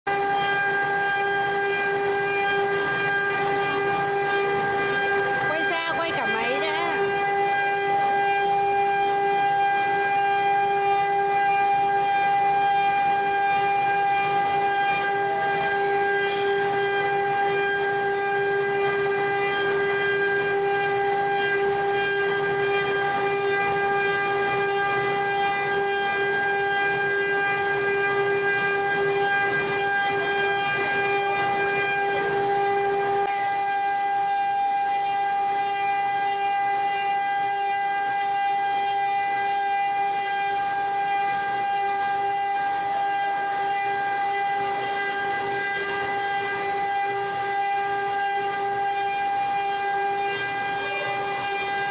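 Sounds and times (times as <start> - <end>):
machine spindle high-pitched whine: 0.1 - 51.9.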